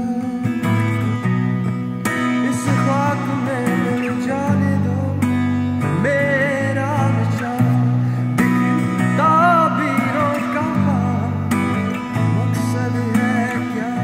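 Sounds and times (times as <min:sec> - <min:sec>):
man singing: 0:00.0 - 0:01.2, 0:02.0 - 0:14.0
strummed acoustic guitar: 0:00.0 - 0:14.0.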